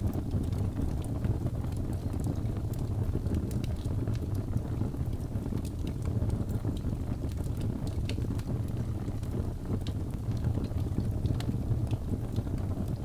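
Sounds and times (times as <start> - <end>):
fireplace flame rumble: 0.0 - 13.0
wood crackling and popping: 0.0 - 13.0.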